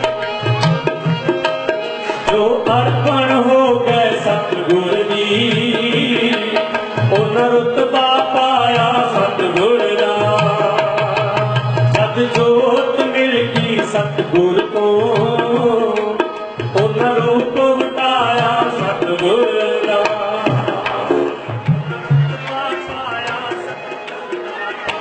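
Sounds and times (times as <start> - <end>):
harmonium melody: 0.0 - 25.0
tabla drum strokes: 0.0 - 25.0.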